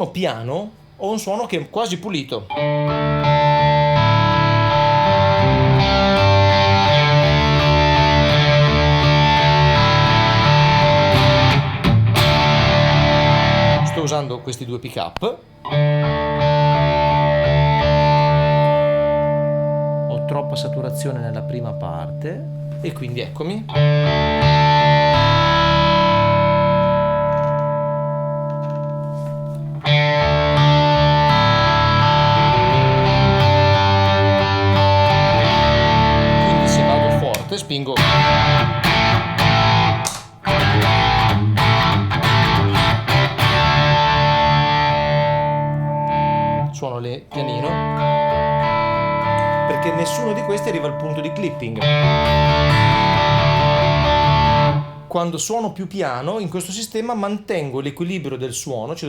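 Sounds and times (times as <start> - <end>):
overdriven electric guitar chords: 2.5 - 14.1, 15.5 - 22.8, 23.6 - 55.1.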